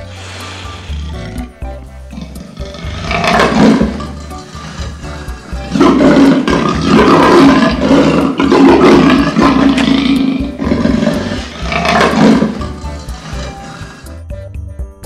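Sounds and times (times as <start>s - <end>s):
background music: 0.0s - 15.0s
lion roaring: 0.1s - 14.2s.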